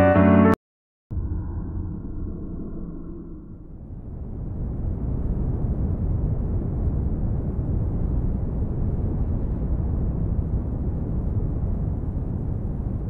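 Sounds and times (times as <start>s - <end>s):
low rumbling noise: 1.1s - 13.0s.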